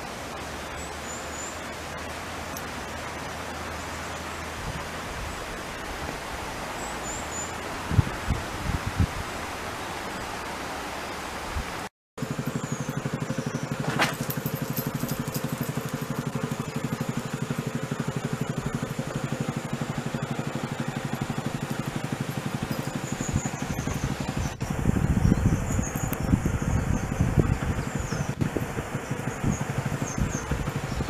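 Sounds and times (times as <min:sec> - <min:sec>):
engine running with rapid pulse: 0:00.0 - 0:31.0.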